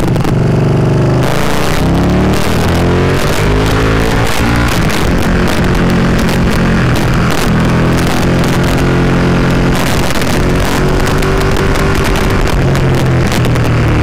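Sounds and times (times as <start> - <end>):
motorcycle engine running: 0.0 - 14.0
wind rushing: 1.3 - 14.0.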